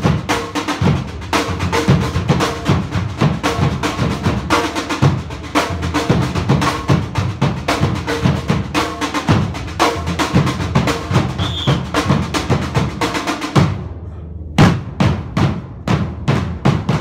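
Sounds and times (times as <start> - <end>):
drumming with tennis balls: 0.0 - 13.9, 14.6 - 17.0.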